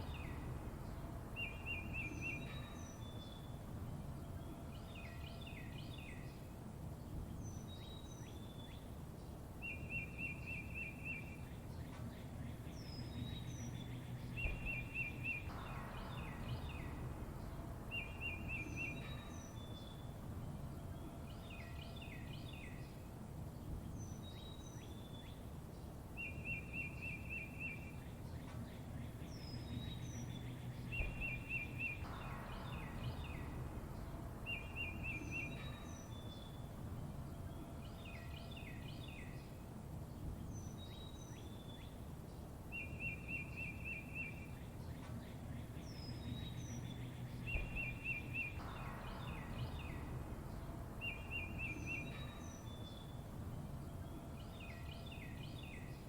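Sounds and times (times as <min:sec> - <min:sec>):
low background rumble: 0:00.0 - 0:56.0
songbirds singing: 0:00.0 - 0:56.0.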